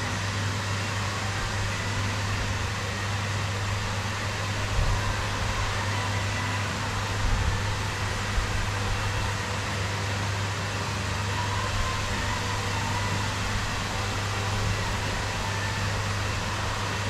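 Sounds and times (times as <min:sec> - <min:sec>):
electric hum: 0:00.0 - 0:17.0.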